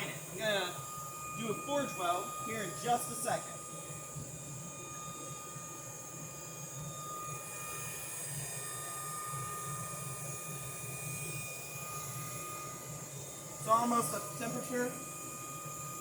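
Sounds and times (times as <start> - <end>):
forge blower hum: 0.0 - 16.0.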